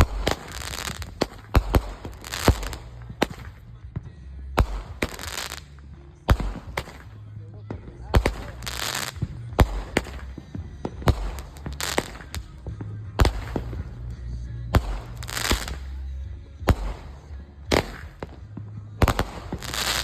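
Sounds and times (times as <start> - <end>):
fireworks hissing crackle: 0.0 - 3.7, 4.6 - 7.2, 8.2 - 12.6, 13.2 - 14.1, 14.8 - 16.1, 16.7 - 20.0
fireworks bangs: 0.0 - 20.0.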